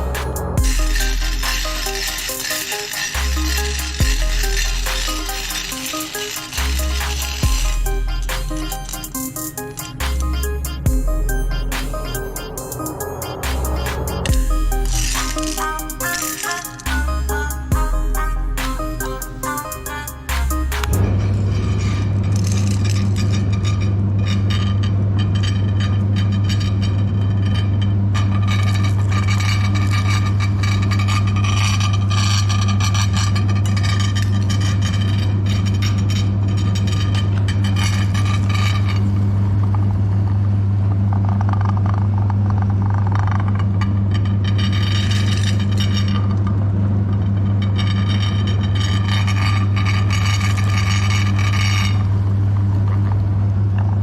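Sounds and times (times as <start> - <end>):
crunching grinding: 0.0 - 39.8, 47.2 - 54.0.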